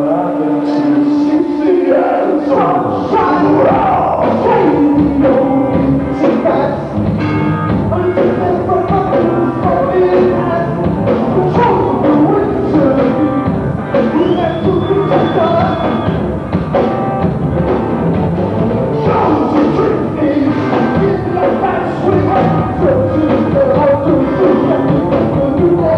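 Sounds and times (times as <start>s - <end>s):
rock band playing live: 0.6s - 25.9s.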